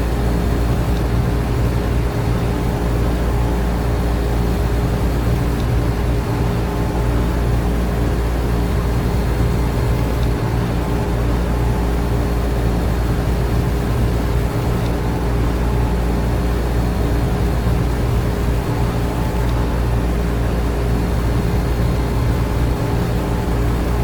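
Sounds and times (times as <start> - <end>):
air conditioner hum: 0.0 - 24.0.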